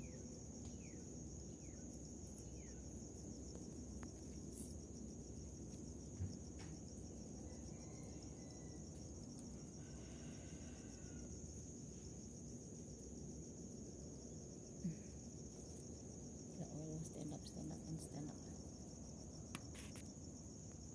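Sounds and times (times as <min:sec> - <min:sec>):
insects trilling: 0:00.0 - 0:20.9.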